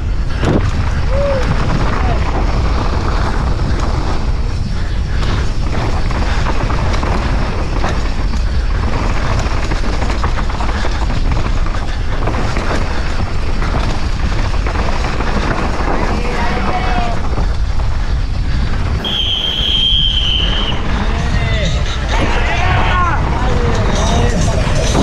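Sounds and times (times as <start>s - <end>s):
bike chain and frame rattling: 0.0s - 25.0s
bike tyres on dirt and rock: 0.0s - 25.0s
wind on microphone: 0.0s - 25.0s.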